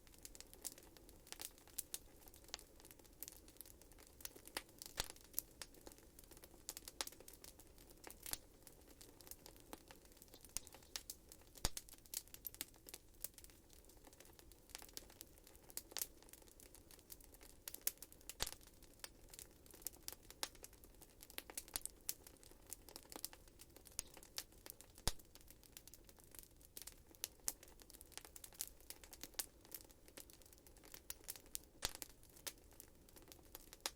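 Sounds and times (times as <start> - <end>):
faint steady hiss: 0.0 - 33.9
wood fire crackling: 0.0 - 33.9.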